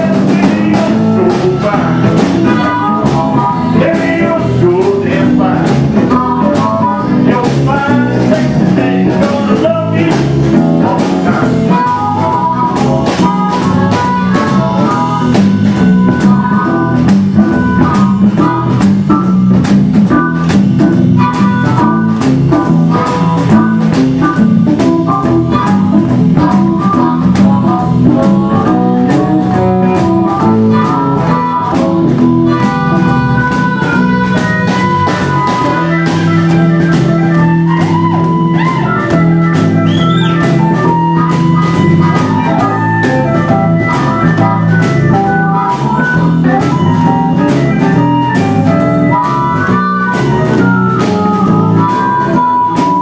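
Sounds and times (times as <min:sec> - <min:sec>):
harmonica: 0:00.0 - 0:53.0
live blues band playing: 0:00.0 - 0:53.0.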